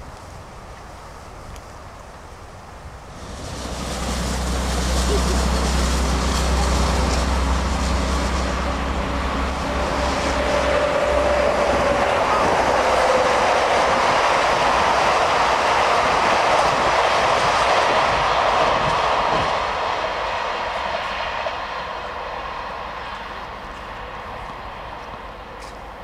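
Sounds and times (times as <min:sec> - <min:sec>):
train wheels rushing: 0:02.9 - 0:26.0.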